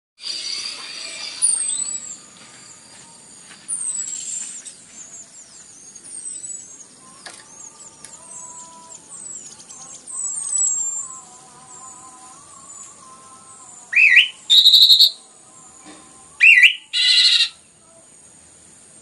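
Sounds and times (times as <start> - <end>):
thrush singing: 0.2 - 17.8.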